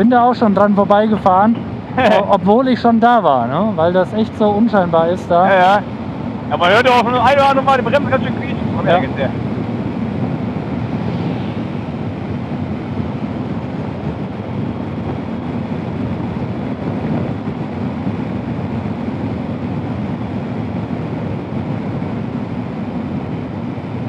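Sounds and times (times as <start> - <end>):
motorcycle engine cruising: 0.0 - 24.0
wind rushing over microphone: 0.0 - 24.0.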